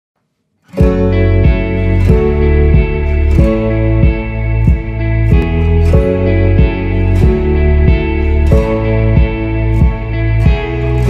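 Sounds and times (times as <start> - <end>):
guitar music: 0.7 - 11.0.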